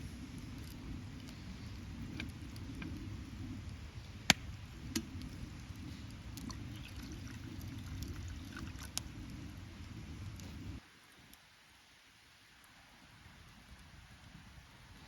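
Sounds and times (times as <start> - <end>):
campfire burning and crackling: 0.0 - 11.4, 12.5 - 15.0.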